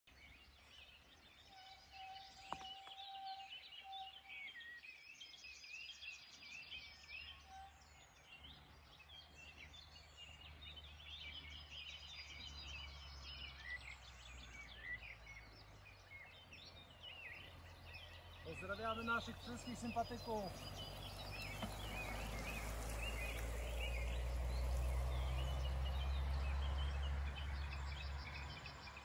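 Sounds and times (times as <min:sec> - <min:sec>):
songbirds chirping and trilling: 0:00.1 - 0:29.0.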